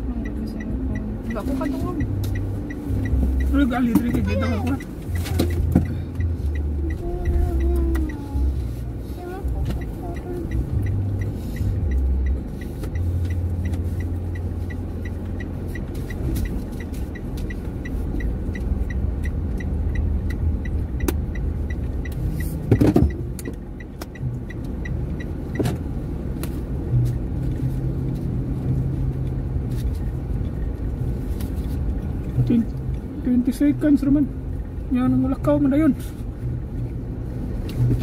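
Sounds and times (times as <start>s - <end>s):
car cabin low rumble: 0.0s - 38.0s
indicator ticking: 0.0s - 38.0s.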